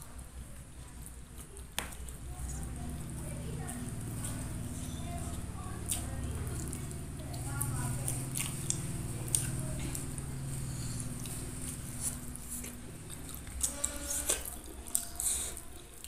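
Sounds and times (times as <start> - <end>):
chewing with wet smacks: 0.0 - 16.0
steady low hum: 0.0 - 16.0.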